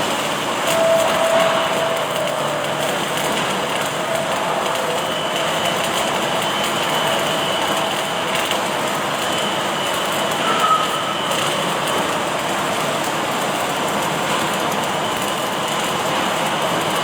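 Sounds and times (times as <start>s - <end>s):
factory din: 0.0s - 17.0s
welding arc hissing: 0.0s - 17.0s.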